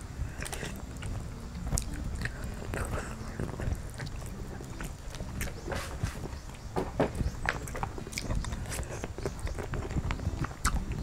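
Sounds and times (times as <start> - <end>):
chewing and mouth smacking: 0.4 - 6.6, 7.4 - 11.0.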